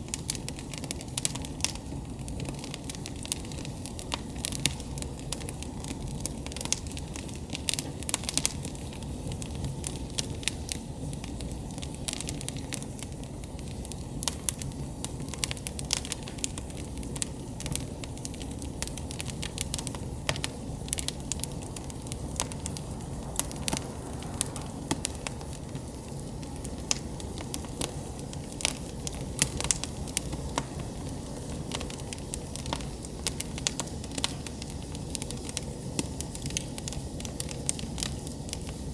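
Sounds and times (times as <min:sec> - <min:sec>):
low rush of flames: 0:00.0 - 0:38.9
wood crackling and popping: 0:00.0 - 0:38.9.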